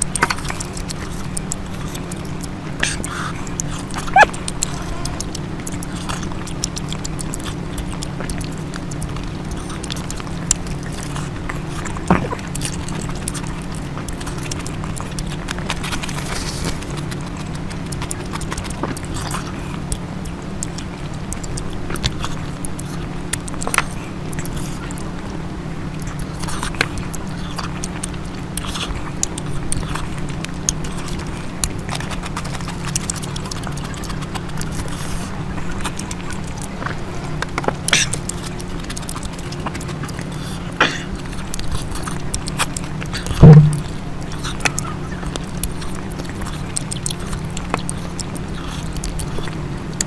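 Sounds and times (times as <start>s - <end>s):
person chewing food: 0.0s - 50.0s
steady low hum: 0.0s - 50.0s.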